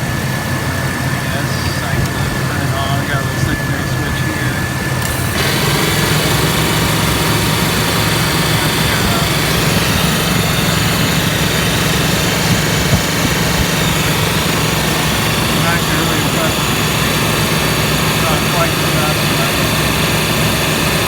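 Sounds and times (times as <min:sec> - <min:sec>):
engine idling: 0:00.0 - 0:21.0
air compressor hiss: 0:01.3 - 0:21.0.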